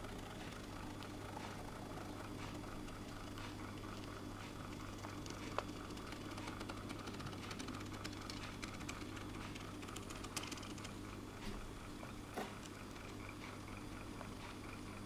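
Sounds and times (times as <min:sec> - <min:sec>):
faint clicks and ticks: 0:00.0 - 0:15.0
steady low hum: 0:00.0 - 0:15.0.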